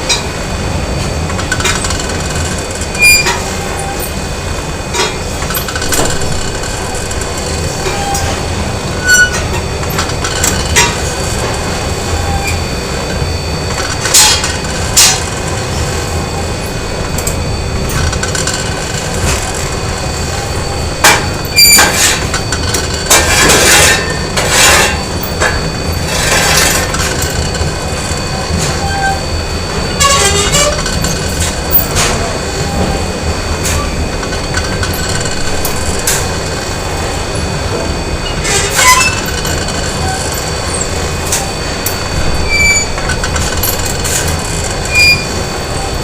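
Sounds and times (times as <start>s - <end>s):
factory machinery rumble and hum: 0.0s - 46.0s.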